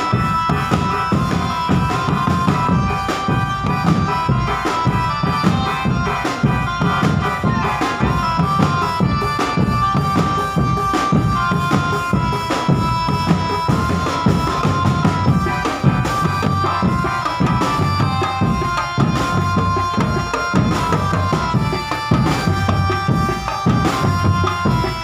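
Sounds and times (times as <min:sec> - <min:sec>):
fast dense drumming: 0:00.0 - 0:25.0
reedy wind instrument melody: 0:00.0 - 0:25.0.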